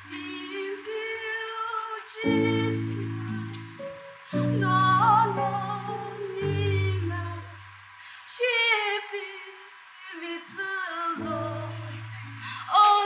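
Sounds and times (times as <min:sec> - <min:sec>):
woman singing a slow prayer song: 0:00.0 - 0:03.6, 0:04.3 - 0:13.0.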